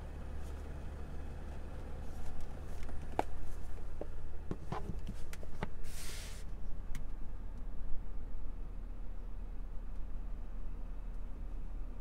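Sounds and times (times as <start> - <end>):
car cabin low rumble: 0.0 - 12.0.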